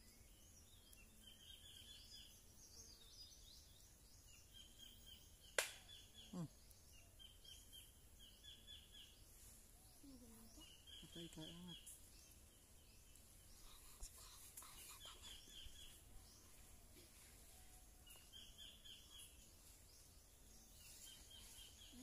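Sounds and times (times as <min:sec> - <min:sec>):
faint high chirping: 0:00.0 - 0:22.0.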